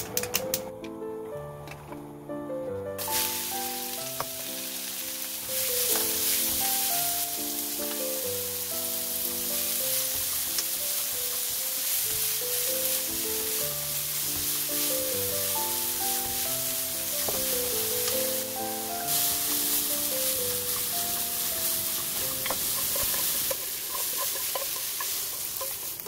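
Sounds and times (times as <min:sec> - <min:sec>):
gentle background music: 0:00.0 - 0:26.0
vegetables sizzling in oil: 0:03.0 - 0:26.0.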